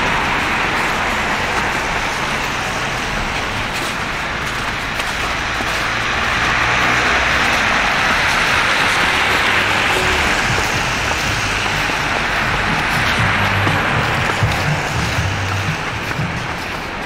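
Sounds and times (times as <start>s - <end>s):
tyre hiss on wet road: 0.0s - 17.0s.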